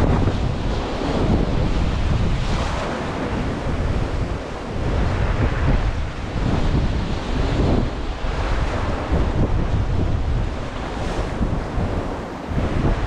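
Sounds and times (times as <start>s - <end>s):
ocean waves breaking on rocks: 0.0s - 13.0s
wind buffeting microphone: 0.0s - 13.0s.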